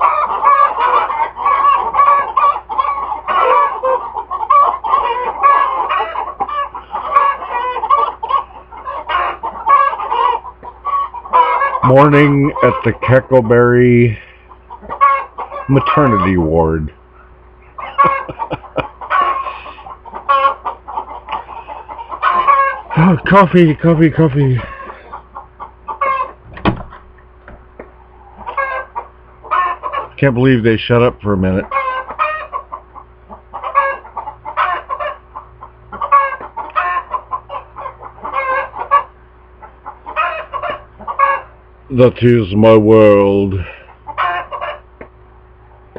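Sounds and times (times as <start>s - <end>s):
chickens clucking and squawking: 0.0s - 45.9s.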